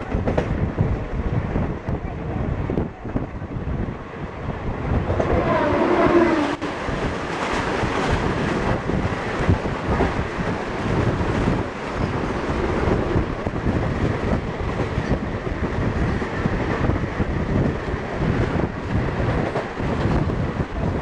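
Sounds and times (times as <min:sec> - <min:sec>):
train wheels clattering on rails: 0:00.0 - 0:01.1, 0:05.0 - 0:21.0.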